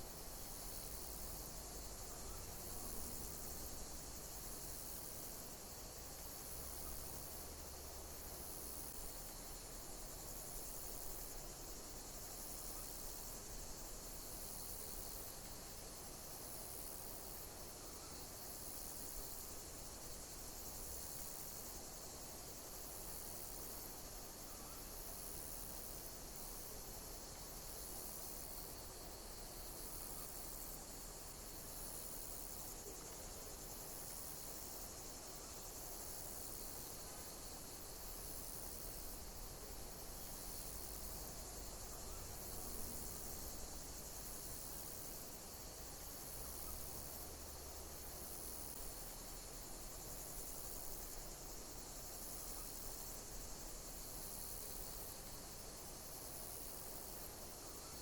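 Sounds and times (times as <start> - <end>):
insects hissing: 0.0 - 58.0.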